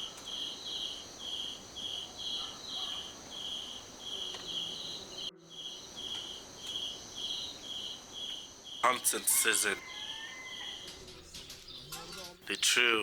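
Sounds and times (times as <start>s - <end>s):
high insect drone: 0.0s - 13.0s
insects chirping: 0.0s - 13.0s.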